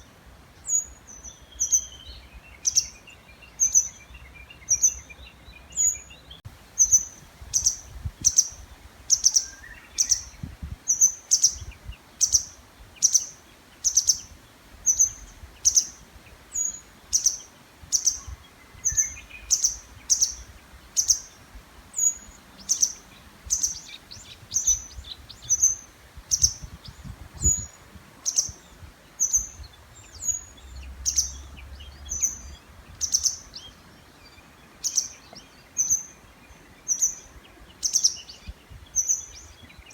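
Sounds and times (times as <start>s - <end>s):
faint bird song: 0.0s - 39.9s
small bird high-pitched call: 0.0s - 39.9s.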